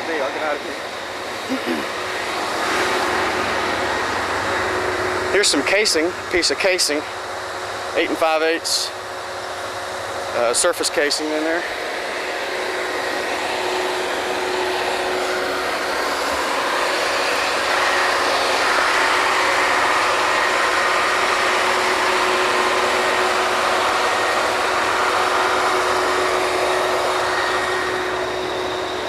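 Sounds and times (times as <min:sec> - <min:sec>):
drilling rig machinery din: 0:00.0 - 0:29.0
faint steady whine: 0:00.0 - 0:29.0.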